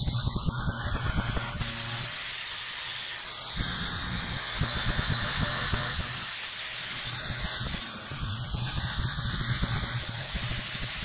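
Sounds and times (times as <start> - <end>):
angle grinder grinding metal: 0.0 - 11.0.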